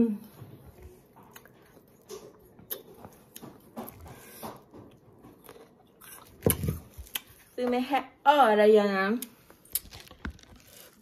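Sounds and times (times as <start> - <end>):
biting and chewing crisp fruit: 0.2 - 7.6, 9.2 - 11.0.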